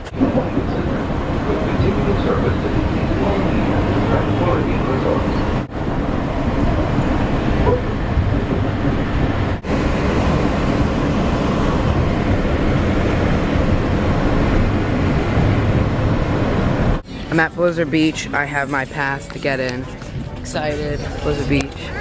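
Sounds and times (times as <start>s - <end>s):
vehicle interior rumble: 0.0s - 22.0s.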